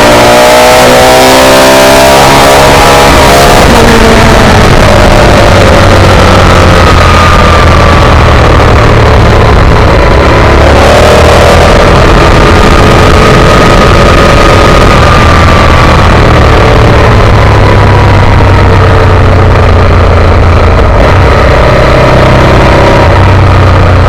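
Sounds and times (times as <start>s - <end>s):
loud rushing noise: 0.0s - 24.0s
motorcycle engine running: 0.0s - 24.0s.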